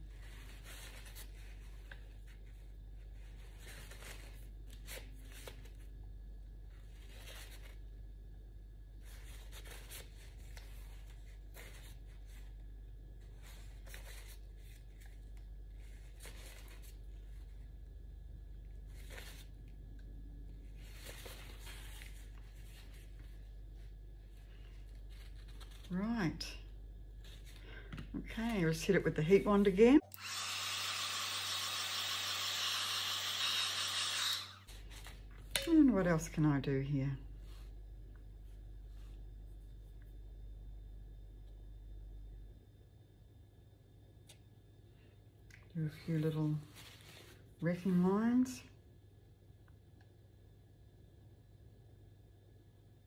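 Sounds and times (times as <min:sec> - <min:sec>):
steady low hum: 0:00.0 - 0:30.2, 0:34.4 - 0:53.0.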